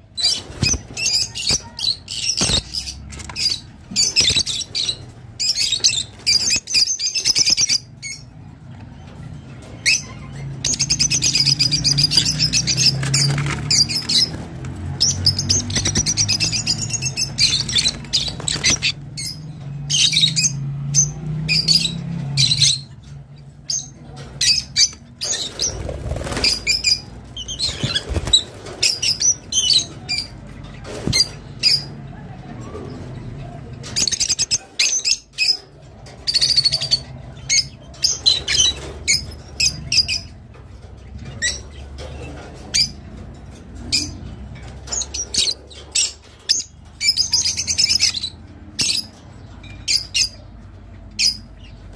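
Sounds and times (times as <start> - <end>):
lovebirds chirping and squawking: 0.0 - 51.9.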